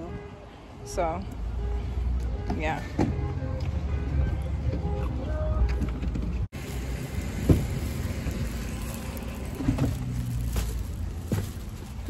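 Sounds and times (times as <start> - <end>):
passing traffic rush: 0.0 - 12.0.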